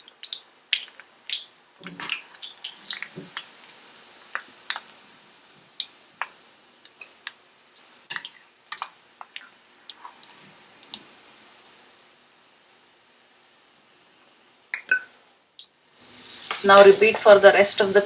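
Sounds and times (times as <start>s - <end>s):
hot oil sizzling and crackling: 0.0s - 18.0s.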